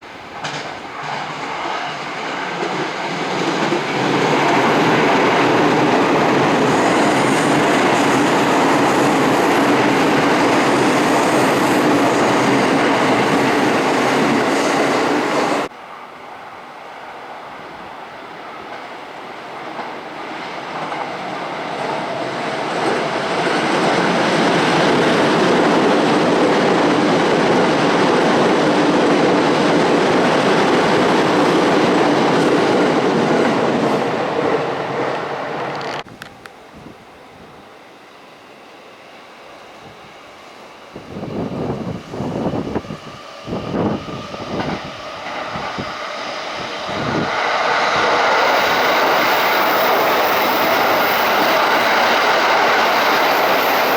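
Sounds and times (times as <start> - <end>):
train rumbling on rails: 0.0 - 53.9.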